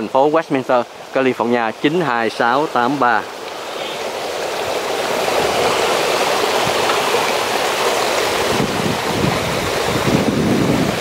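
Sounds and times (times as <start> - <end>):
steady outdoor rushing noise: 0.0 - 11.0.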